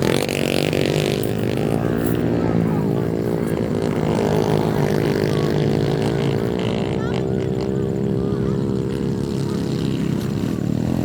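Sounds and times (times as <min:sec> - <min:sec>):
motorbike engines droning: 0:00.0 - 0:11.0.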